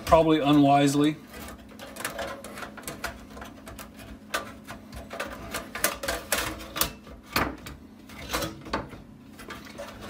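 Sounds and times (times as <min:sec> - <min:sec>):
clicks and knocks of sheet metal: 0:01.3 - 0:10.0.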